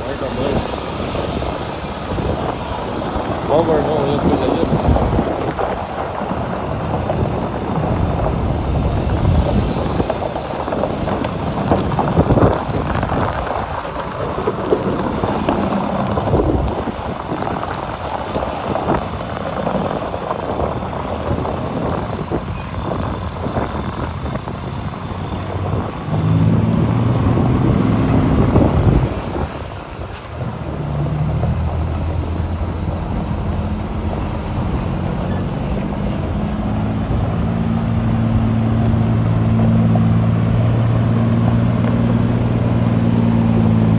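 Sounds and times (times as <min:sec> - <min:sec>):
wind noise on microphone: 0:00.0 - 0:43.9.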